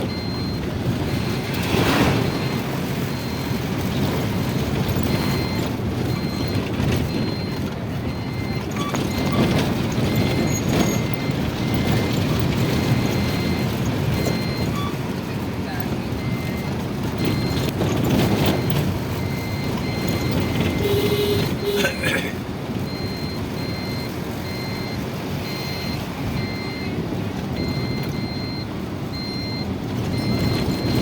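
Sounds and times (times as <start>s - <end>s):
reversing alarm beeping: 0.0s - 15.1s, 16.1s - 21.9s, 22.8s - 31.0s
low engine rumble: 0.0s - 31.0s.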